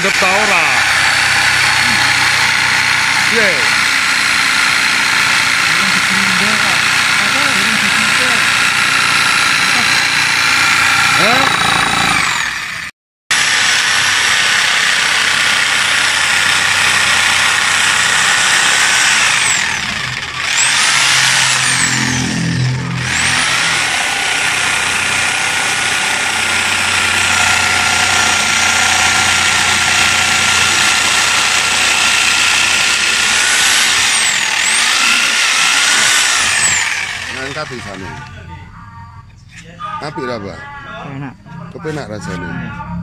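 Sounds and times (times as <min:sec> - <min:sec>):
saw blade rasping through wood: 0:00.0 - 0:38.3
jigsaw motor whine: 0:00.0 - 0:38.4.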